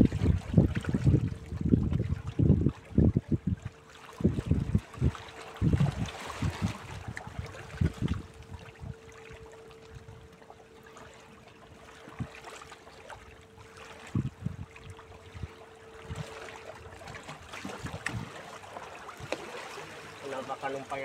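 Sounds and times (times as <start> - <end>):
waves lapping against rocks: 0.0 - 9.0, 11.9 - 21.0.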